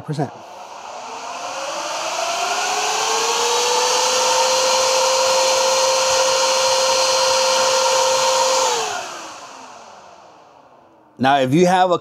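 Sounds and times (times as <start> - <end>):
rush of air: 0.0 - 11.1
electric fan whine: 0.0 - 11.2.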